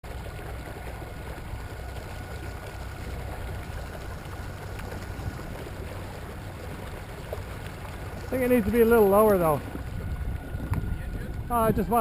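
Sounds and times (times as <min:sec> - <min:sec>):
water rushing along hull: 0:00.0 - 0:12.0
low rumble: 0:00.1 - 0:12.0.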